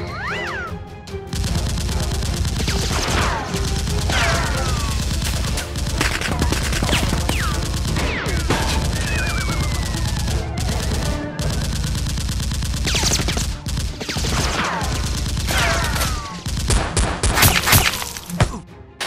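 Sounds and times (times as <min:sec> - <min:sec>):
automatic gunfire effects: 0:01.3 - 0:18.2.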